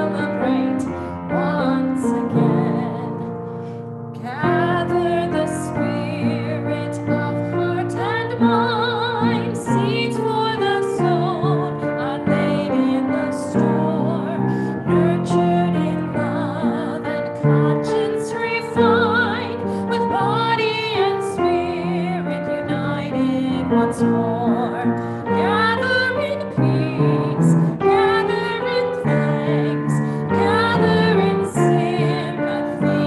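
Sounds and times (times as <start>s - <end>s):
woman singing a hymn: 0.0s - 3.4s, 4.2s - 33.0s
piano accompaniment: 0.0s - 33.0s.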